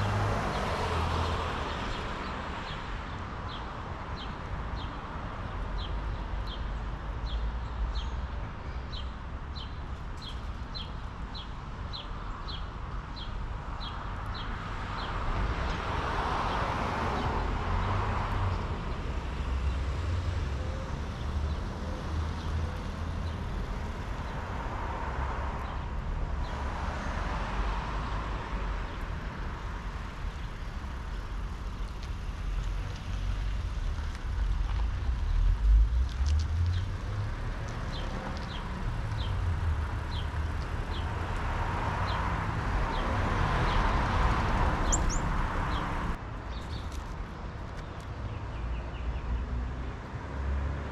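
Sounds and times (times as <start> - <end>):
cars passing: 0.0 - 8.0, 12.5 - 50.9
low traffic rumble: 0.0 - 50.9.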